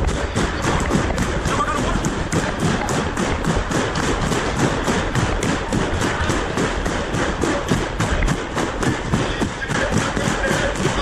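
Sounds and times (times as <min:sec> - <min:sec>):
footsteps thumping: 0:00.0 - 0:11.0
outdoor noise: 0:00.0 - 0:11.0.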